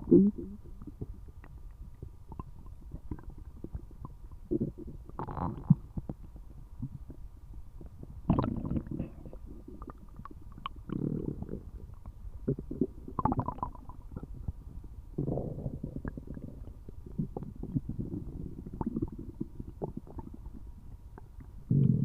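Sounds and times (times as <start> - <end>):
stomach gurgling: 0.0 - 22.0.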